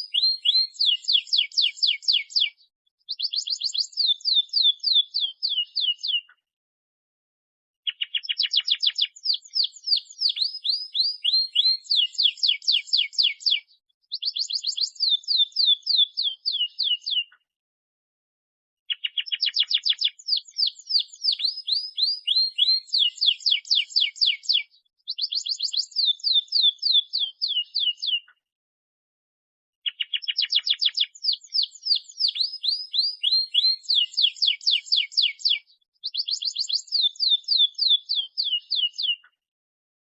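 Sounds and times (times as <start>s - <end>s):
canary singing trilled song: 0.0s - 6.4s, 7.8s - 17.4s, 18.9s - 28.4s, 29.8s - 39.4s.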